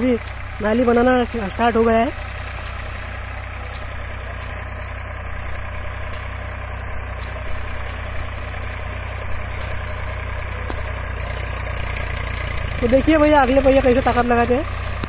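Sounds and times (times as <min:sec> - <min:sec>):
diesel tractor running under load: 0:00.0 - 0:15.0.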